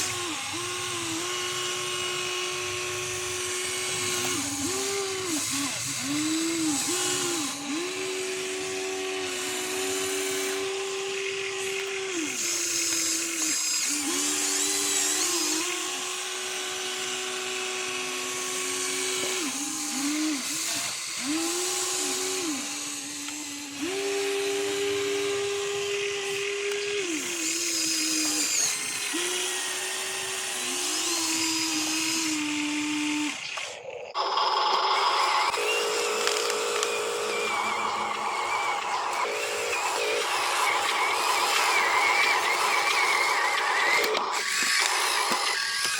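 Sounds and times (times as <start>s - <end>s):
small electric motors whining: 0.0s - 45.9s.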